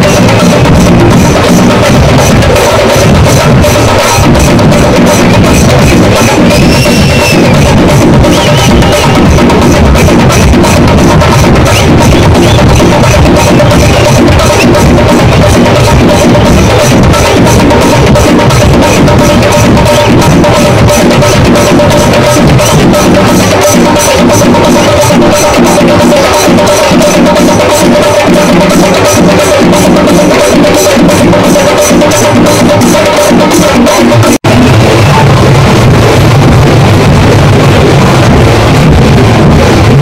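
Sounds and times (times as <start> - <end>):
wood-block strokes: 0.0 - 35.5
drum strokes: 0.0 - 40.0.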